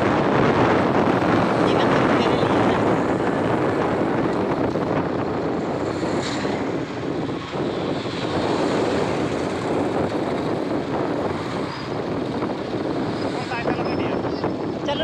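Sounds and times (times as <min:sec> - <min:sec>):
motorcycle engines humming: 0:00.0 - 0:15.0
wind and road noise: 0:00.0 - 0:15.0.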